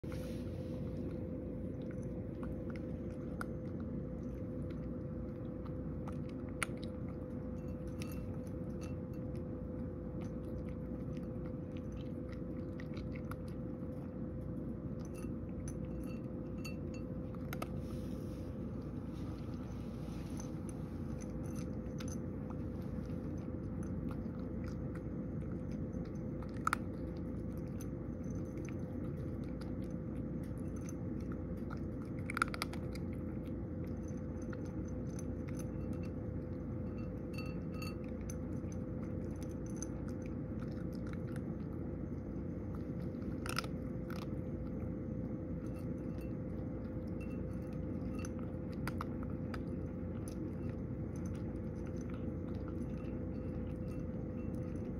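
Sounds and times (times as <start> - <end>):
cat chewing dry kibble: 0.0 - 54.9
steady low hum: 0.0 - 54.9.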